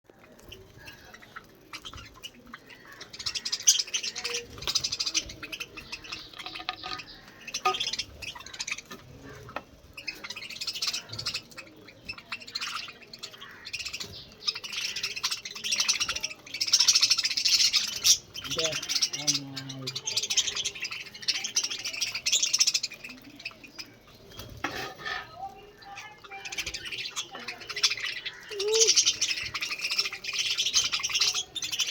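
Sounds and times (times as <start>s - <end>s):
budgerigars chattering and chirping: 0.1s - 31.9s.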